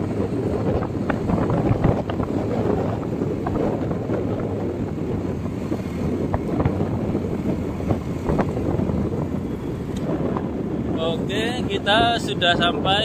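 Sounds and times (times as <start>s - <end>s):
moving vehicle running noise: 0.0s - 13.0s
wind buffeting microphone: 0.0s - 13.0s.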